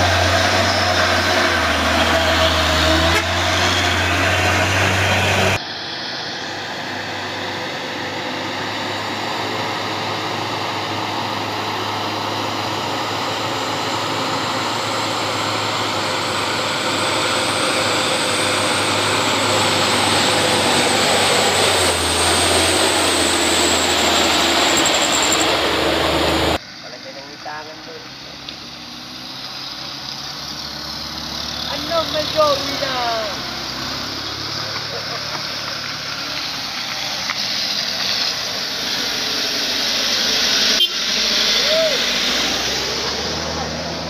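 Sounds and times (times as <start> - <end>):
truck diesel engines labouring: 0.0 - 44.0
truck passing close: 0.0 - 44.0.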